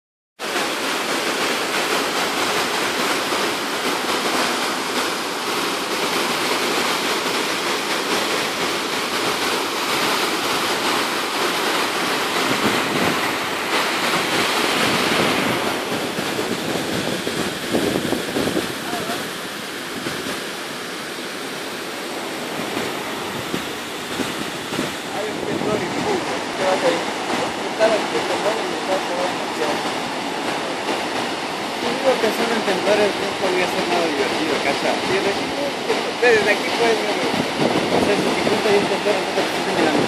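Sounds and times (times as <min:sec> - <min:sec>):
waterfall pouring over rocks: 0:00.4 - 0:40.0.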